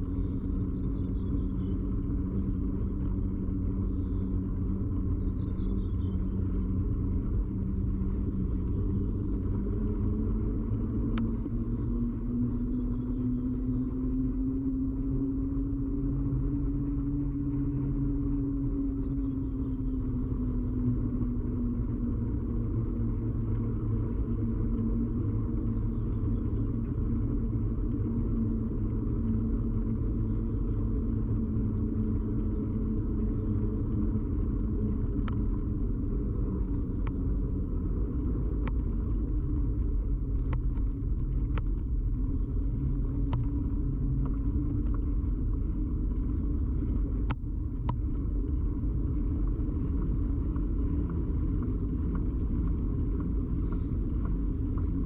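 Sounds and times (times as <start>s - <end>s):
bicycle ride rumble and hum: 0.0s - 55.0s.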